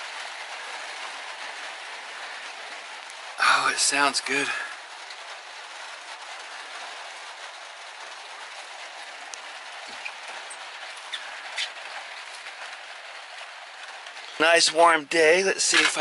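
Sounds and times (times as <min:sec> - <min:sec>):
rain on a metal roof: 0:00.0 - 0:16.0
single raindrops ticking: 0:00.0 - 0:16.0.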